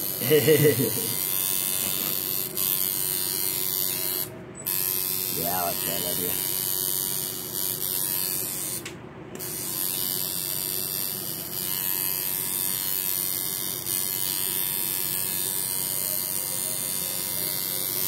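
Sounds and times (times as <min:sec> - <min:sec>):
tattoo machine buzzing: 0:00.0 - 0:18.0.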